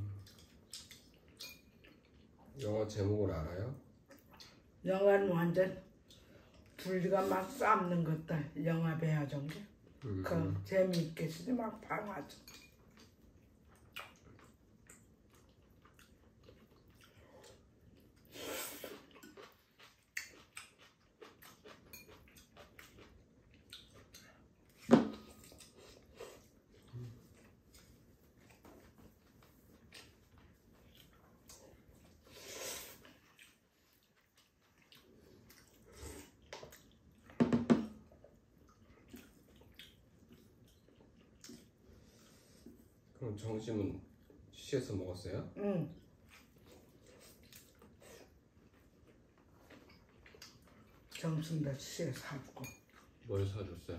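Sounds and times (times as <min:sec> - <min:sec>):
chewing: 0:00.0 - 0:02.8, 0:05.9 - 0:07.6, 0:12.3 - 0:43.1, 0:45.9 - 0:53.9.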